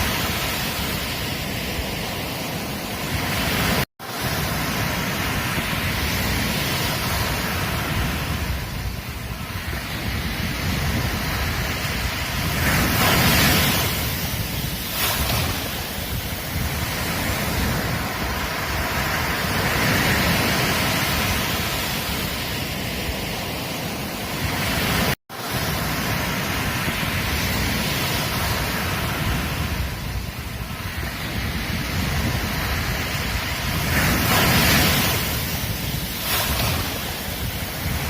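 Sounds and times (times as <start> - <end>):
ocean surf breaking on beach: 0.0 - 38.0.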